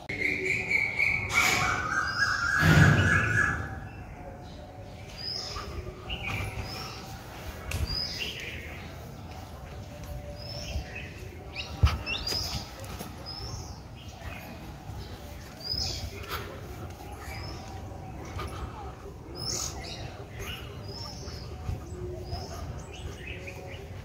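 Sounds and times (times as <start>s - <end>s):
small birds chirping: 3.2s - 24.0s.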